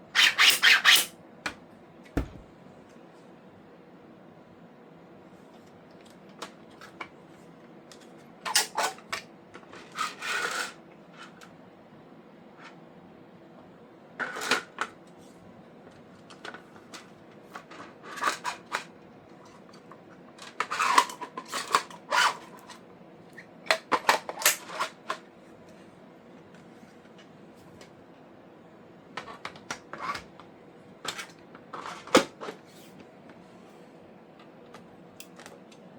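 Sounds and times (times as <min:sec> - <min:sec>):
faint steady hum: 0:01.1 - 0:35.9.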